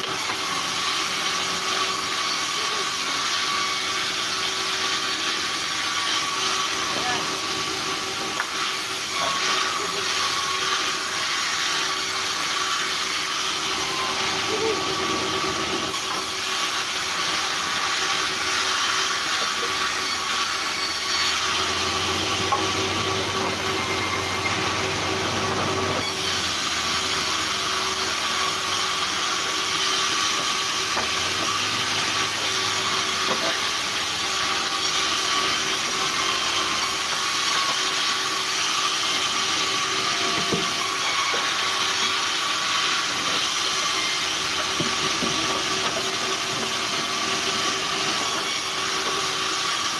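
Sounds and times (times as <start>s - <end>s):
saw blade hissing through wood: 0.0s - 49.9s.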